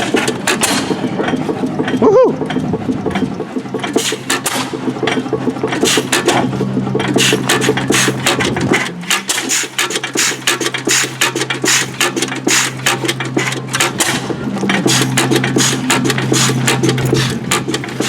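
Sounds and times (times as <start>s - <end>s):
stationary gas engine clattering: 0.0s - 18.0s
steady hum: 0.0s - 18.0s.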